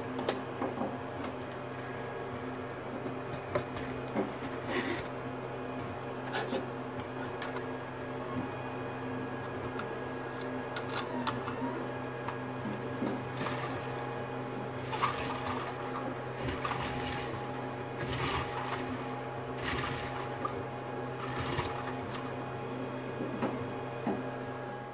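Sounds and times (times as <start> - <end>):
steady machine hum: 0.0 - 24.9.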